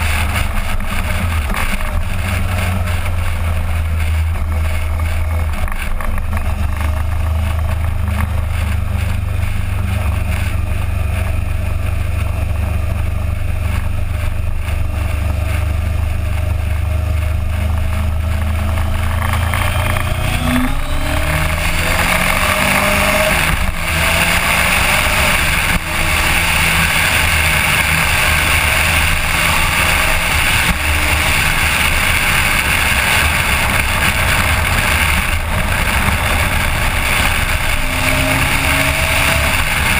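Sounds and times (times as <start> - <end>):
motorcycle engine accelerating: 0.0 - 39.9
wind noise at speed: 0.0 - 39.9.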